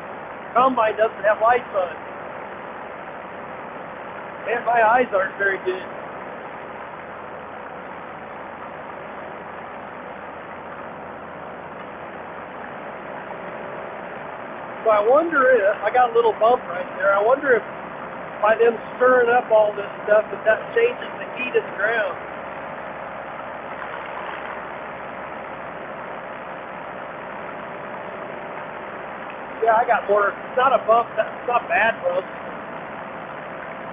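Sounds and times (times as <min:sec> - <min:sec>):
paramotor engine drone: 0:00.0 - 0:33.9.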